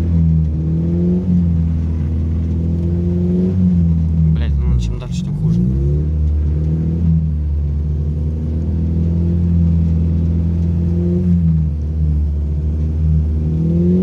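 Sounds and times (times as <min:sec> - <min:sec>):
car engine running from inside: 0:00.0 - 0:14.0.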